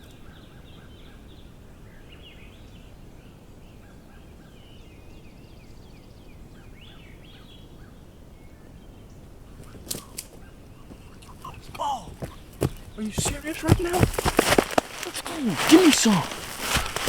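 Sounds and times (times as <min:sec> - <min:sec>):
woodland background: 0:00.0 - 0:17.0.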